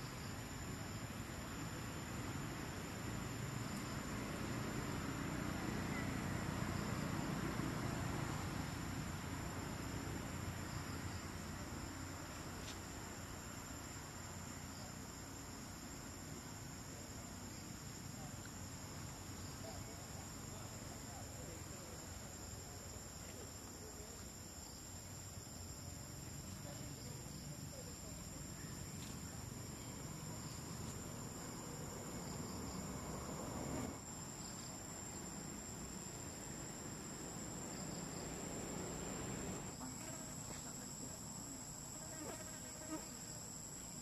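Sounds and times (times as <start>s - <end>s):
insects droning: 0.0s - 44.0s
outdoor background hiss: 0.0s - 44.0s.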